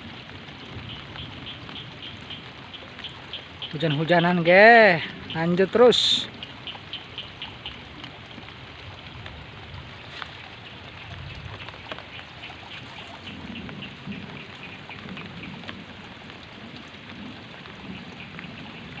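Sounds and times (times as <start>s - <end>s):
raindrop ticks: 0.0s - 19.0s
steady rain: 0.0s - 19.0s.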